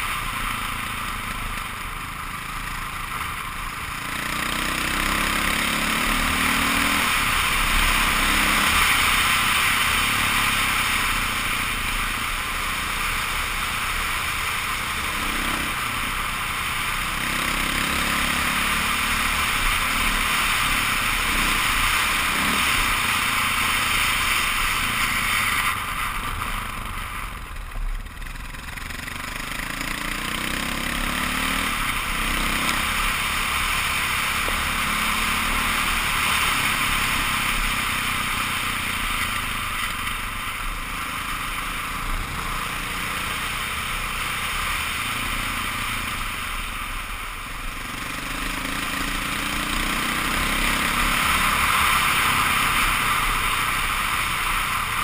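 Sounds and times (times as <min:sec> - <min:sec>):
motorcycle engine revving: 0:00.0 - 0:55.0
rushing wind and road noise: 0:00.0 - 0:55.0.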